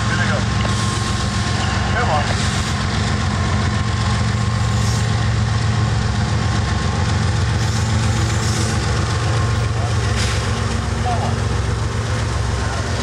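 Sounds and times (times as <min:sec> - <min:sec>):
locomotive engines droning: 0:00.0 - 0:13.0.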